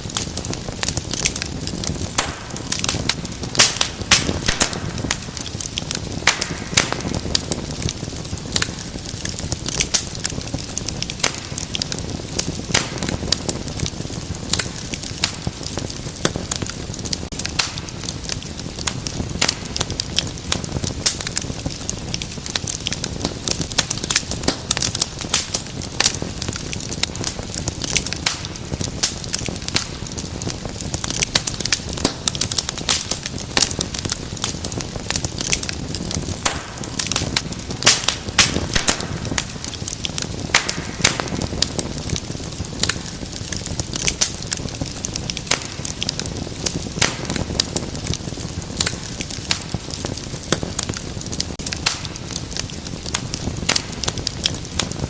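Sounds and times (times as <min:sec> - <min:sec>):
low rush of flames: 0:00.0 - 0:55.0
wood fire crackling: 0:00.0 - 0:55.0.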